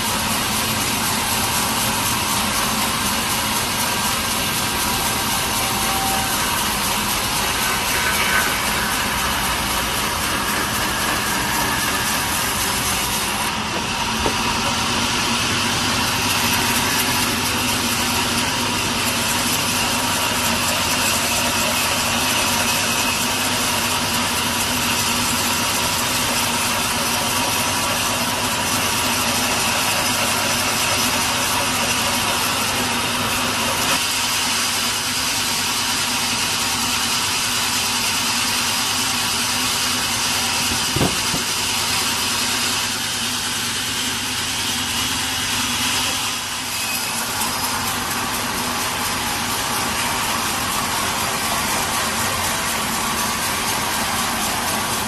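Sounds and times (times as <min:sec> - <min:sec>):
sawmill saw running: 0:00.0 - 0:55.0.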